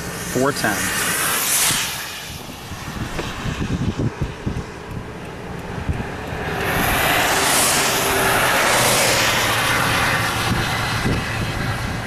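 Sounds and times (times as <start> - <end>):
wind buffeting the microphone: 1.4 - 12.0.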